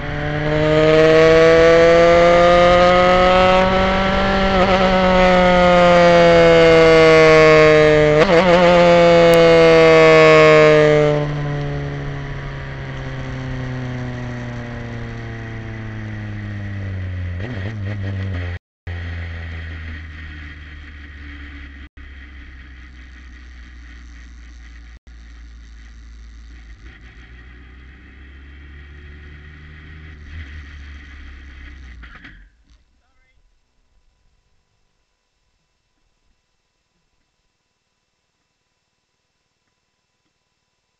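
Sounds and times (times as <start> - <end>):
race car engine: 0.0 - 32.8.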